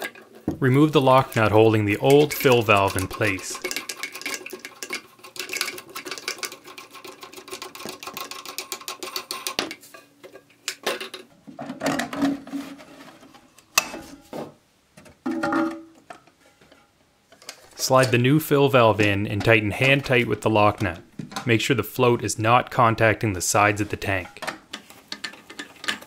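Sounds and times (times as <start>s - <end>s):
plastic parts knocking and scraping: 0.0s - 21.6s, 23.8s - 26.0s.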